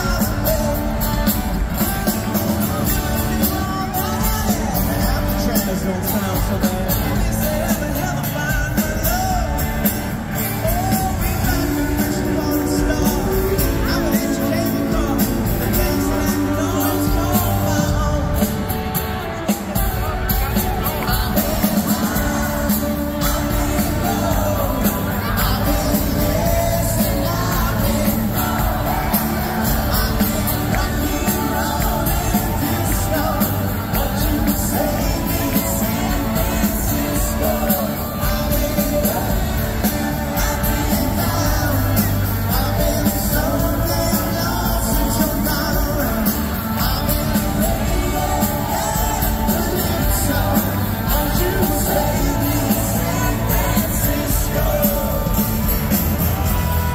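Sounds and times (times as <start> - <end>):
male lead vocal: 0.0 - 56.9
pop-rock band playing: 0.0 - 56.9.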